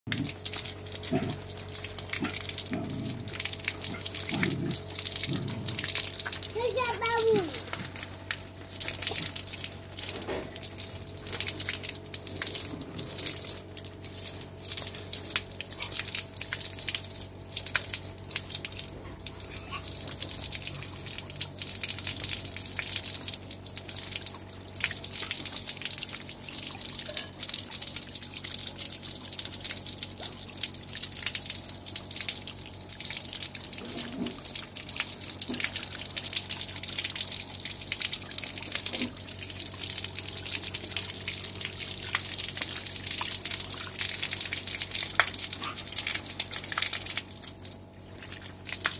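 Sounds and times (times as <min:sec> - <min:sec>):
water dripping and spattering: 0:00.1 - 0:48.9
water pouring onto balloon: 0:00.1 - 0:48.9.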